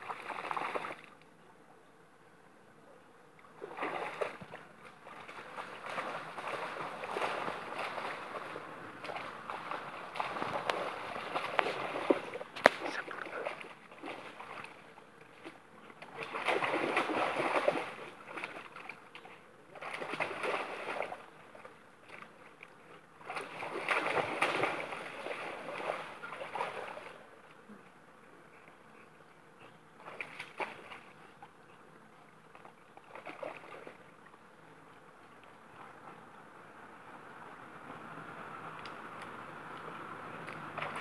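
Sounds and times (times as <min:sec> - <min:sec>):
dog splashing through stream: 0:00.0 - 0:01.2, 0:03.5 - 0:27.4, 0:29.9 - 0:31.6, 0:32.2 - 0:41.0.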